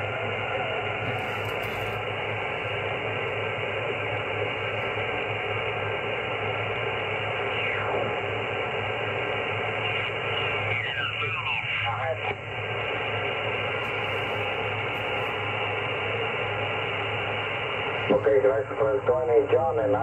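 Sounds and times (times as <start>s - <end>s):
radio band noise hiss: 0.0s - 20.0s.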